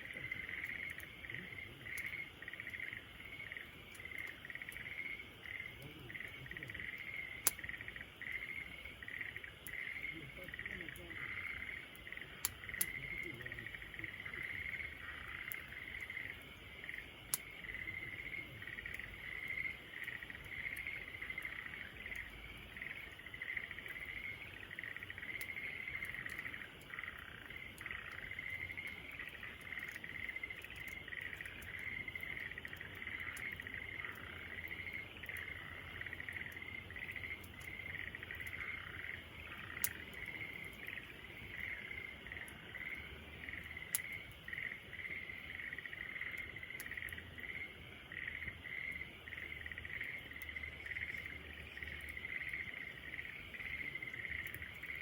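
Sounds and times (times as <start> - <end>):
insects chirring: 0.0 - 55.0
wood fire crackling: 0.0 - 55.0.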